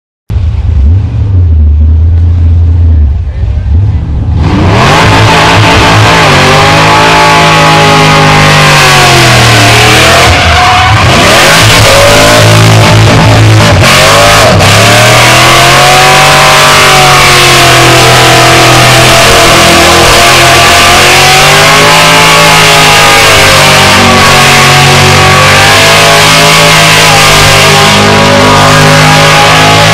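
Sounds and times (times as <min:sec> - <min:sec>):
car engine at high revs: 0:00.3 - 0:29.9.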